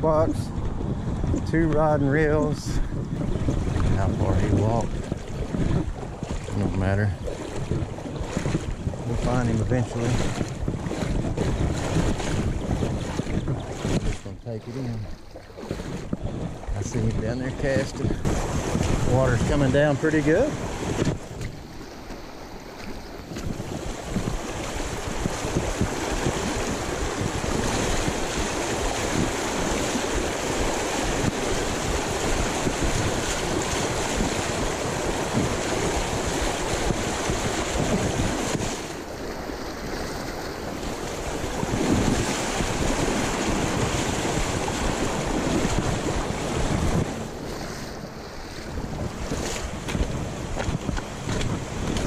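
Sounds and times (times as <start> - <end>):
wind buffeting microphone: 0.0 - 52.0
water rushing over rocks: 1.7 - 52.0.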